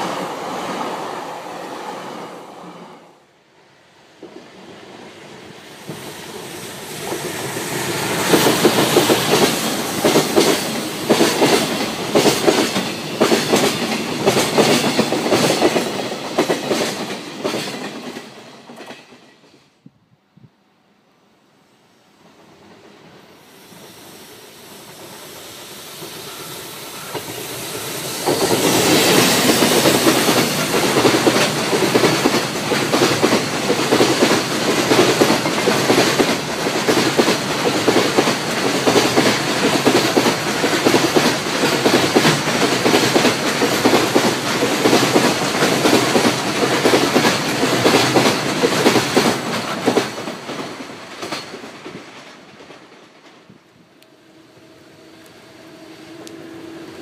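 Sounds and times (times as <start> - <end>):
freight train passing: 0.0 - 19.8, 21.4 - 57.0.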